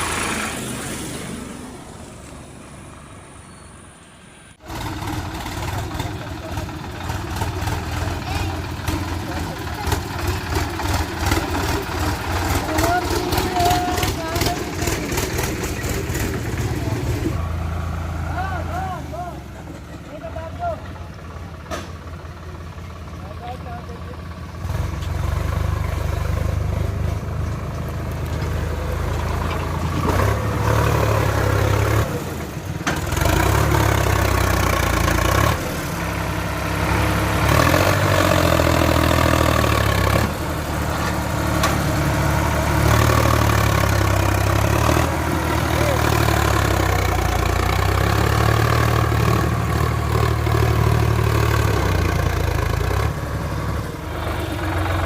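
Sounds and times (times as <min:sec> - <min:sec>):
heavy diesel engine running: 0:04.6 - 0:55.0.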